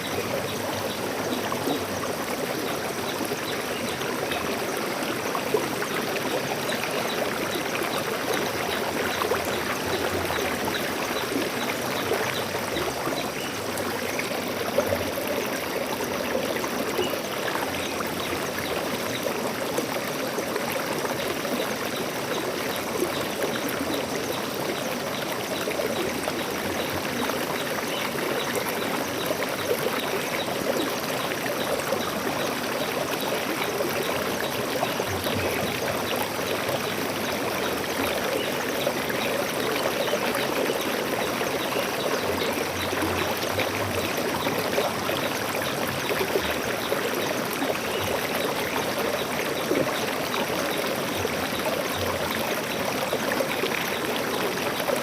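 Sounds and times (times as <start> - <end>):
water rushing and splashing: 0.0 - 55.0.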